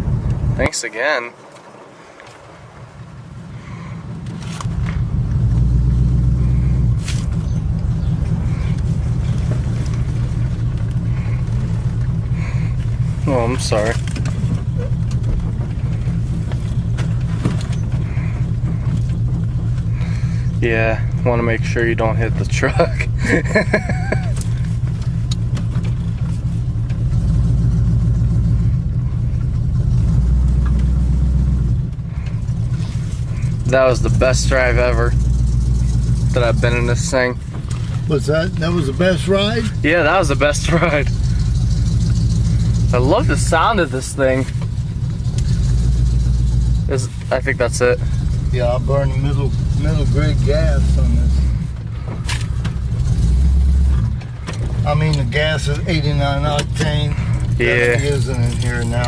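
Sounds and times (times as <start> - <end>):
car engine rumbling: 0.0 - 59.0
deeper drone: 0.0 - 59.0.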